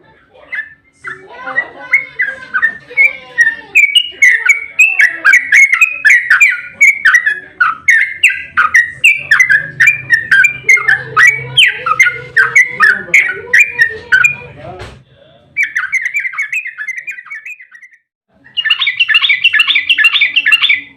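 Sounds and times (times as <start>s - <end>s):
bird singing bubbly notes: 0.5s - 14.4s, 15.6s - 20.9s.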